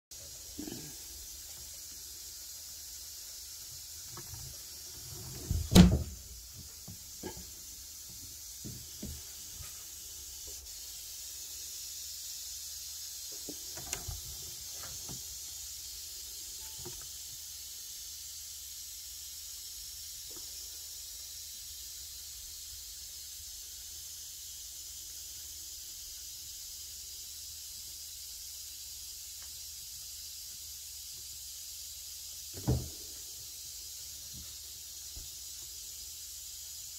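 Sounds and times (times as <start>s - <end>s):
faint steady hiss: 0.1s - 36.9s.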